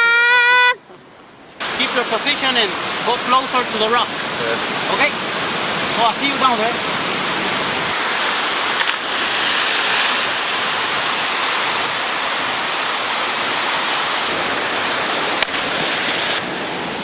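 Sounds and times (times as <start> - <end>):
river rapids rushing: 1.0 - 17.0.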